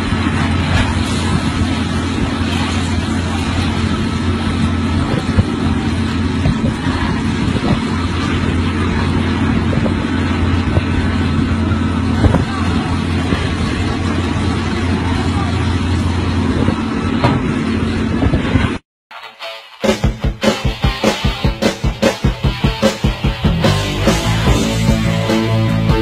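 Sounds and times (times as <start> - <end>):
engine running: 0.0 - 18.8, 19.8 - 26.0.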